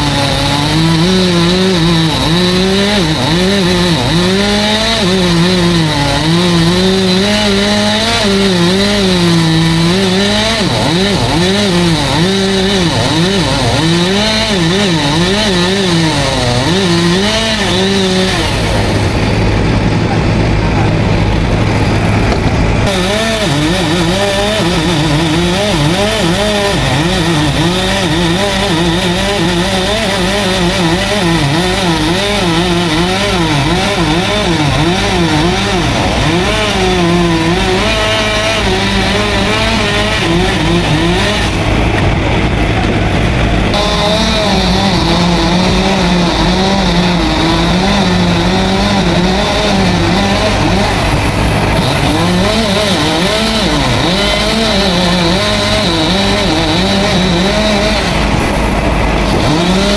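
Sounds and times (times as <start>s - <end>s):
chainsaw cutting: 0.0s - 59.9s.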